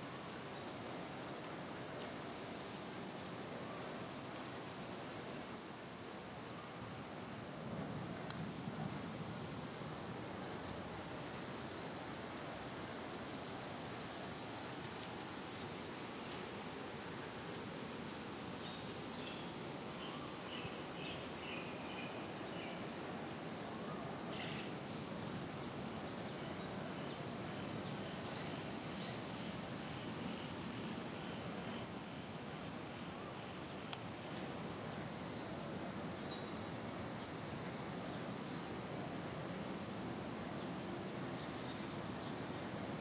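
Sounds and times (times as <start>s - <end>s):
continuous hiss: 0.0s - 43.0s.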